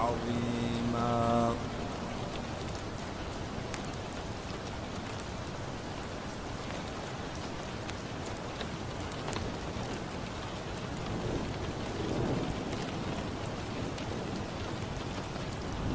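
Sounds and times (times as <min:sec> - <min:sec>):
steady rain falling: 0:00.0 - 0:15.9
wood fire crackling: 0:01.6 - 0:15.9.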